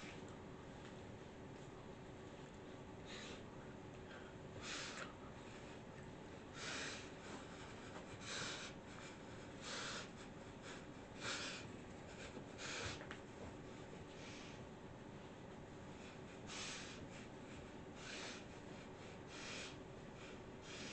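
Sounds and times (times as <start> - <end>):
faint room tone hum: 0.0 - 20.9
hissy breaths: 3.0 - 14.7, 15.8 - 20.9.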